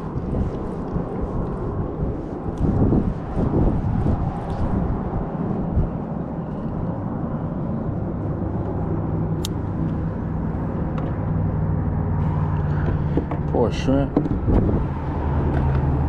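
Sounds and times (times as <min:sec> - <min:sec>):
engine hum: 0:00.0 - 0:16.0
wind buffeting microphone: 0:00.0 - 0:16.0.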